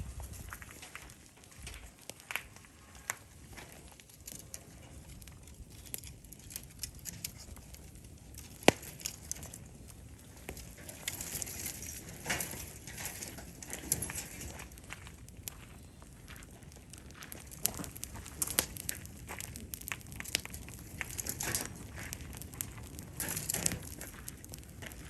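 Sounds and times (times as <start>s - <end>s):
sharp loud crack from fire: 0.0s - 16.0s, 16.6s - 25.0s
campfire crackling and popping: 0.0s - 25.0s.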